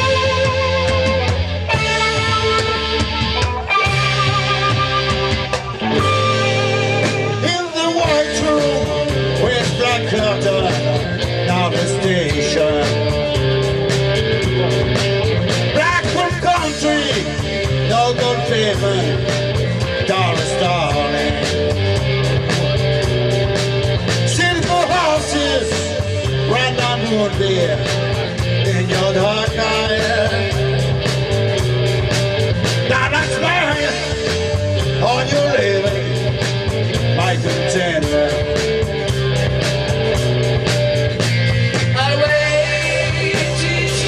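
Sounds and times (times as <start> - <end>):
rock music: 0.0 - 44.0.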